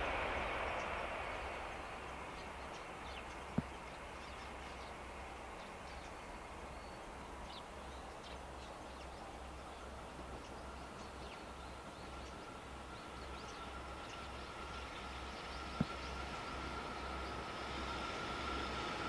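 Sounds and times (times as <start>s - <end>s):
low uneven rumble: 0.0s - 19.0s.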